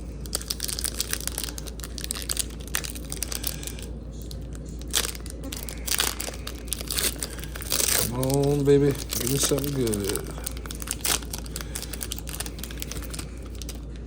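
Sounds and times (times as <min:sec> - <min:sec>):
wrapper crinkling: 0:00.0 - 0:14.0
wrapper ripping: 0:00.1 - 0:13.9.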